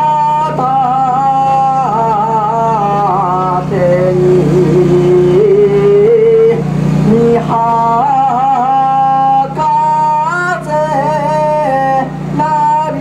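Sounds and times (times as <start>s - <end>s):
man singing a festival chant: 0.0s - 13.0s.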